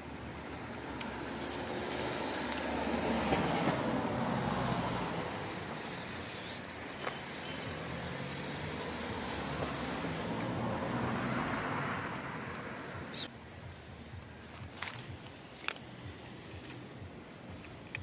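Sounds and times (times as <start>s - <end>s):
vehicle passing: 0.2s - 17.9s.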